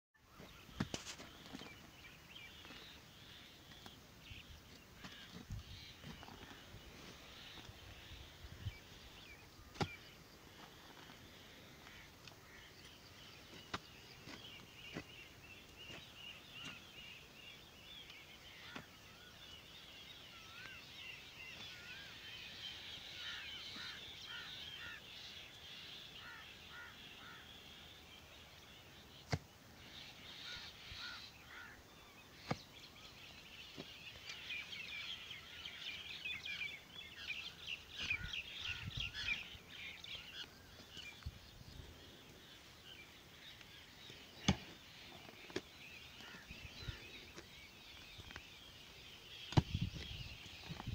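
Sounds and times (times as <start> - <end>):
birds chirping and twittering: 0.2 - 50.9.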